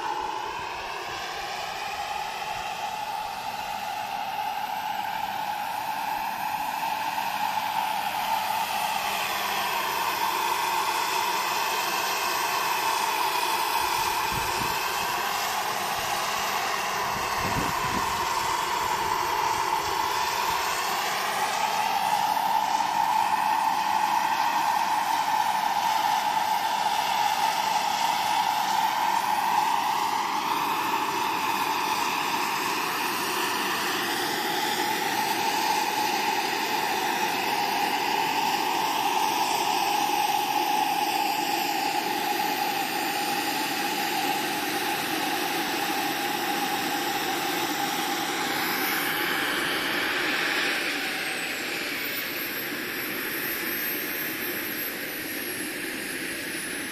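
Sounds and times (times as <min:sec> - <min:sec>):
model helicopter turbine whine: 0:00.0 - 0:56.9.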